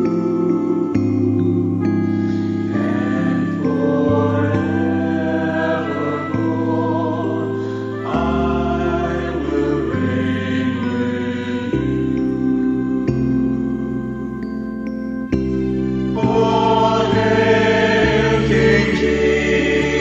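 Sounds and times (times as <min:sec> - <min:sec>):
choir singing held chords: 0:00.0 - 0:20.0
organ accompaniment: 0:00.0 - 0:20.0.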